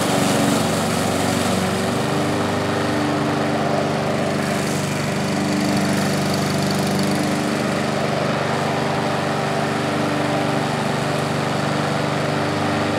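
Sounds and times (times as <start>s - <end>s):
lawn mower engine cutting grass: 0.0s - 12.9s.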